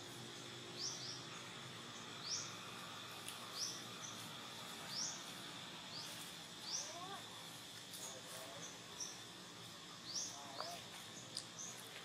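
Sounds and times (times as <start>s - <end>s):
insect drone: 0.0s - 12.0s
bird chirping: 0.3s - 7.2s, 8.0s - 12.0s.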